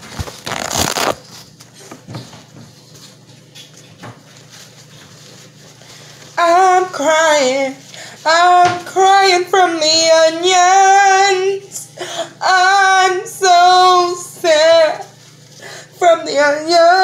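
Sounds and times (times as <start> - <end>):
paper towel rustling: 0.0 - 1.6, 2.7 - 11.4, 13.5 - 17.0.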